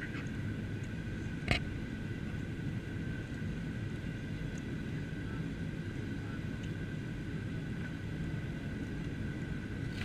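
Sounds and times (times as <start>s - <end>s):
airplane cabin engine rumble: 0.0s - 10.0s
steady high whine: 0.0s - 10.0s.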